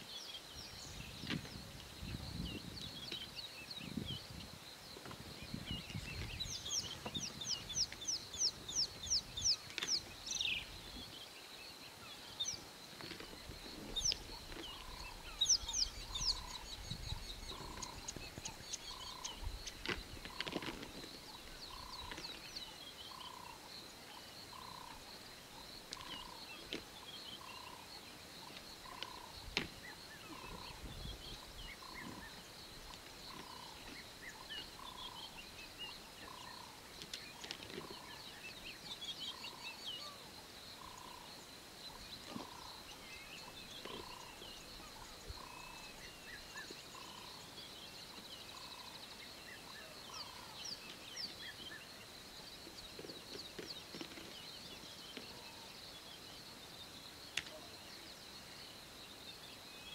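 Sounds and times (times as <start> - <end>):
bird chirps: 0.0 - 59.9
high insect drone: 0.1 - 59.9.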